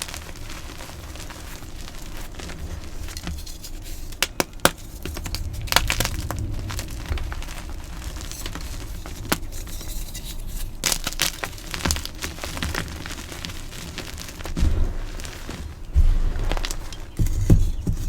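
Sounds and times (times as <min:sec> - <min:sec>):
chalk crunching by hand: 0:00.0 - 0:18.0.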